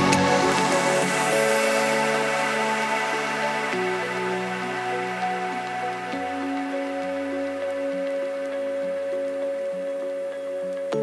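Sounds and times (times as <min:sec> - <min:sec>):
calm electronic music: 0:00.0 - 0:11.0.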